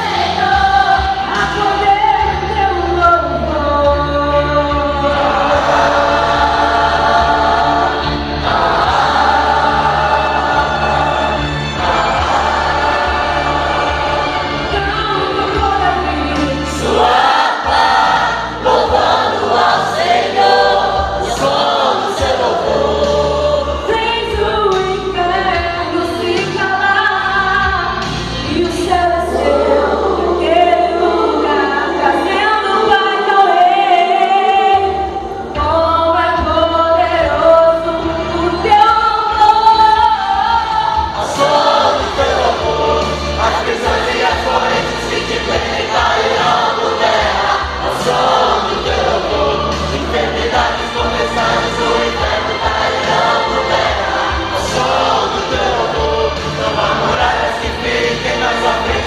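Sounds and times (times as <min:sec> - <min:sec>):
instrumental backing with bass: 0:00.0 - 0:33.4, 0:34.4 - 0:59.0
choir singing gospel song: 0:00.0 - 0:59.0.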